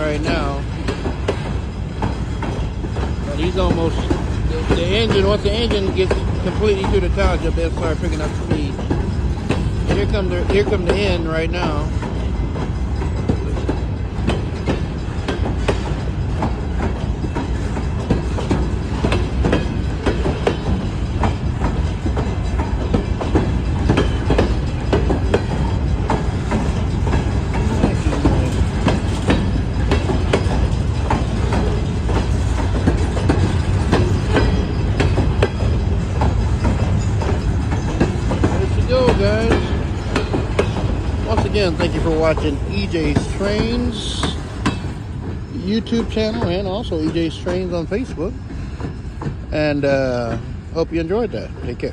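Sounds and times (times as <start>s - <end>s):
steel wheels rumbling on rail: 0.0s - 51.9s
wheels clacking over rail joints: 0.0s - 51.9s.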